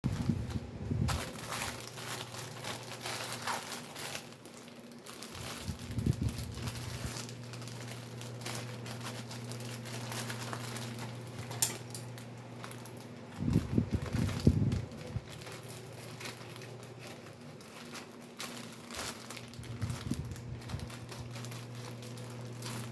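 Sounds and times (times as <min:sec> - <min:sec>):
plastic packaging crinkling: 0:00.0 - 0:22.9
steady low hum: 0:00.0 - 0:22.9.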